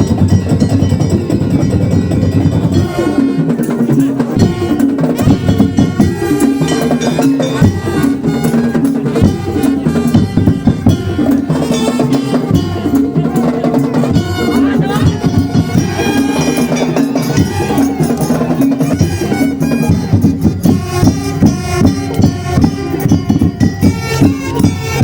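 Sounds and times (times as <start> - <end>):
drums and percussion: 0.0 - 25.0
held melody line: 0.0 - 25.0.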